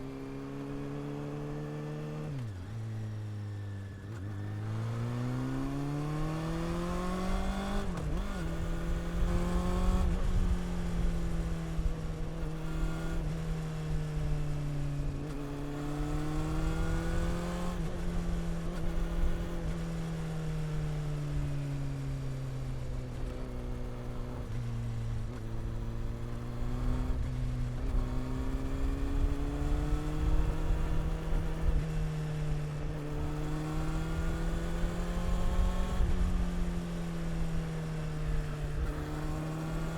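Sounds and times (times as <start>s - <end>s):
motorcycle engine revving: 0.1s - 39.9s.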